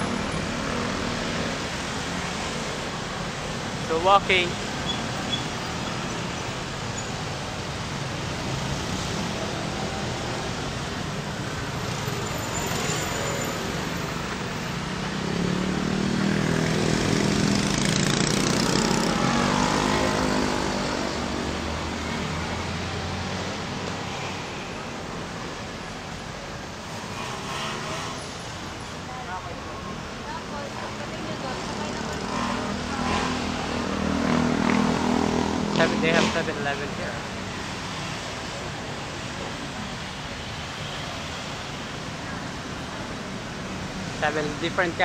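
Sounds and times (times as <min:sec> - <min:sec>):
road traffic: 0:00.0 - 0:45.0.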